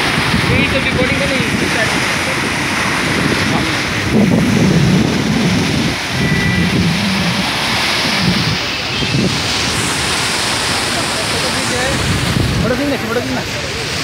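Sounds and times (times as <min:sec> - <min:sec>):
floodwater roaring over concrete: 0:00.0 - 0:14.0
wind buffeting microphone: 0:00.0 - 0:14.0.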